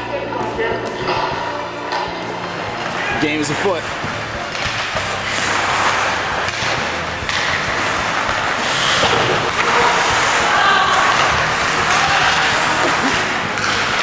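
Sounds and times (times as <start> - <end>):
puck and sticks thudding on boards: 0.7 - 14.0
skates scraping ice: 1.0 - 14.0.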